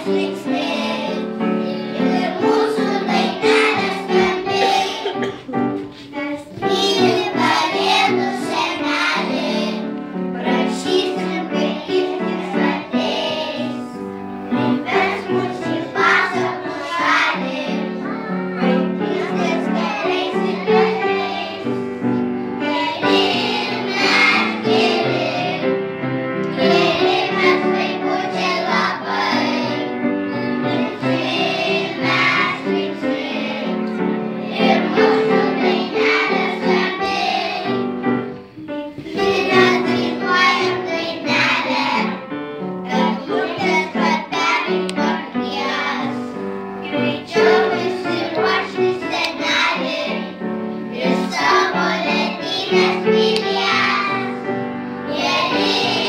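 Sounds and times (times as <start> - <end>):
children singing together: 0.0 - 56.0
instrumental accompaniment: 0.0 - 56.0.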